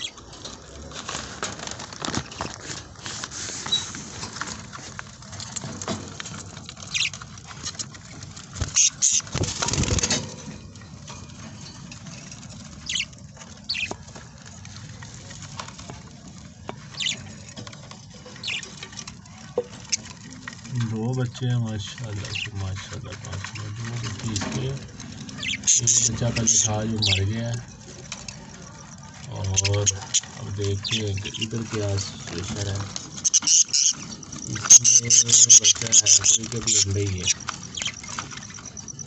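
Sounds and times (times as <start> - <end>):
birds rustling and scratching: 0.0 - 39.0.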